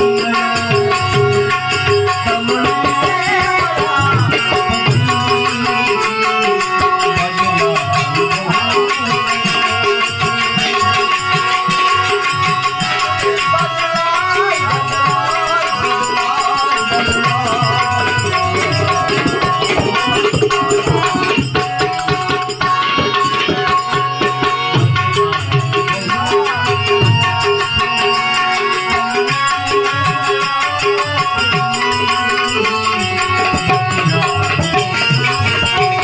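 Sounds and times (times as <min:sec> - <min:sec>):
fast drumming: 0:00.0 - 0:36.0.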